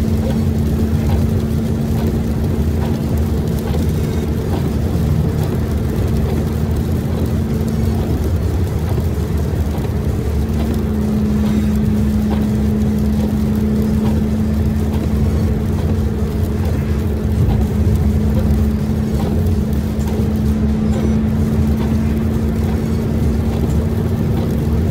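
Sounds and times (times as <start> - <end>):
constant low hum: 0.0 - 24.9
vehicle cruising on wet road: 0.0 - 24.9.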